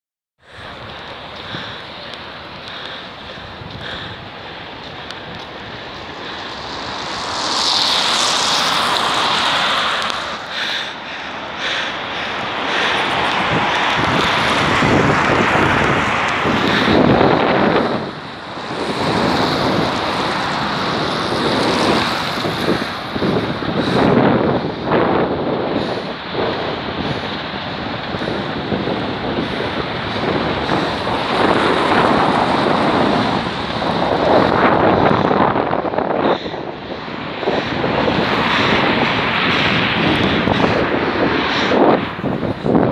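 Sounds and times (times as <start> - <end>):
jet engines running: 0.4 - 42.9
wind buffeting microphone: 0.5 - 42.9.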